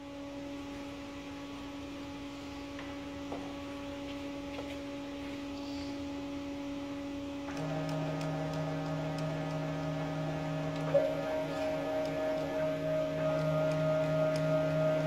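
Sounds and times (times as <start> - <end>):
electrical hum of router: 0.0 - 15.0.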